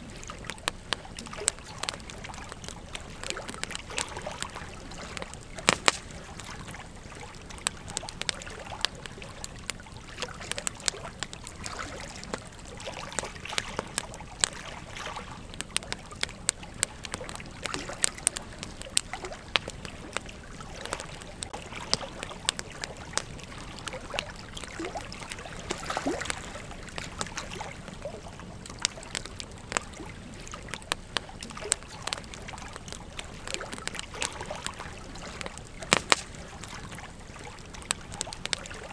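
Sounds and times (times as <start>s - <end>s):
campfire crackling and popping: 0.0s - 38.9s
fire hiss: 0.0s - 38.9s.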